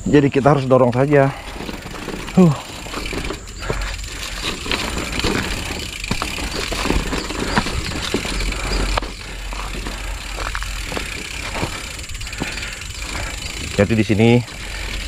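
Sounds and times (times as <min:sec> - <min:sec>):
bike rattling: 0:00.0 - 0:15.0
bike tyres crunching on stones: 0:00.0 - 0:15.0
steady low rumble: 0:00.0 - 0:15.0.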